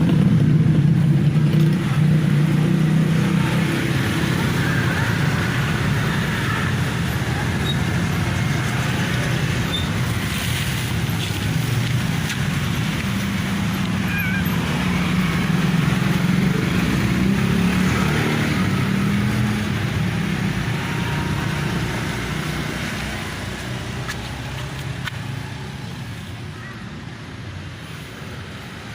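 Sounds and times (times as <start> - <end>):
motor vehicle engine running: 0.0 - 26.3.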